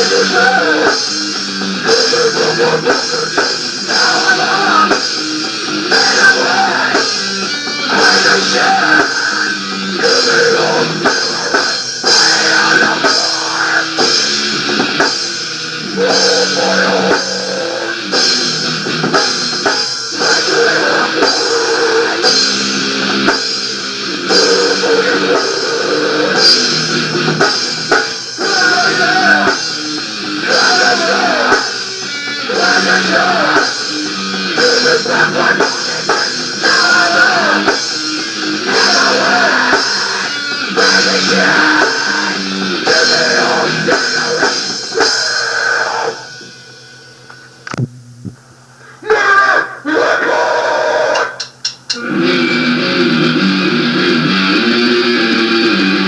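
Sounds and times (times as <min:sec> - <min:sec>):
drum kit: 0:00.0 - 0:49.4, 0:51.1 - 0:56.0
electric guitar: 0:00.0 - 0:56.0.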